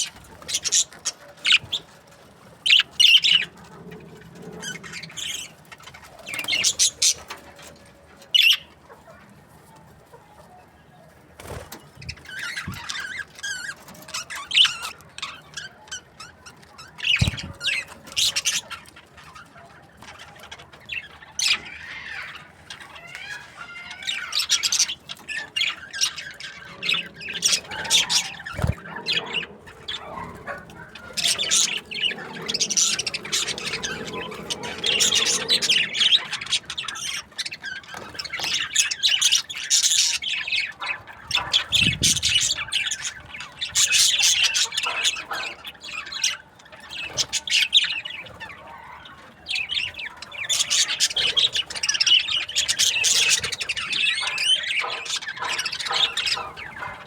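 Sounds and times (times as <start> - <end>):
budgies chirping and squawking: 0.0 - 57.0.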